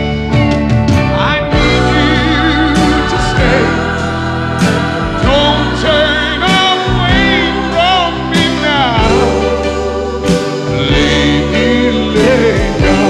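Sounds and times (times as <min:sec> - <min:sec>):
steady musical accompaniment: 0:00.0 - 0:13.0.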